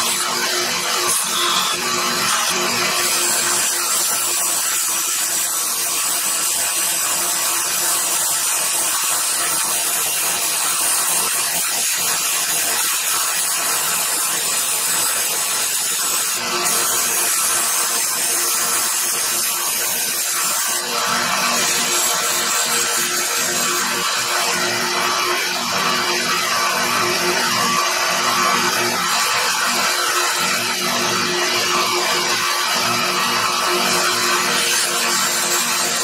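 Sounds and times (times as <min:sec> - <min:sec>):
belt sander grinding steel: 0:00.0 - 0:36.0.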